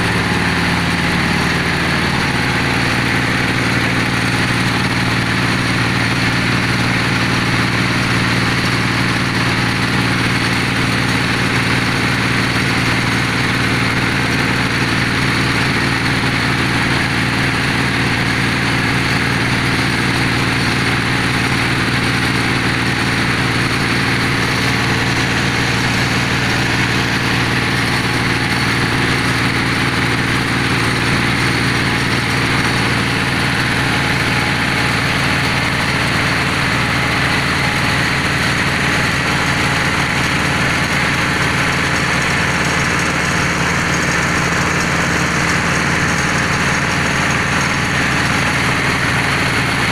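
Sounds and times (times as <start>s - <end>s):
drilling machine engine running: 0.0s - 49.9s.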